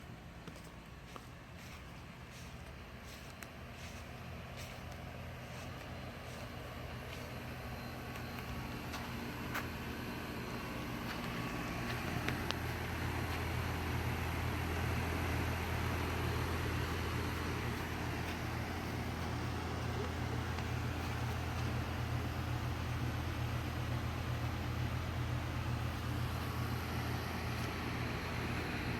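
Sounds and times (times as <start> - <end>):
air conditioner humming: 0.0 - 28.9.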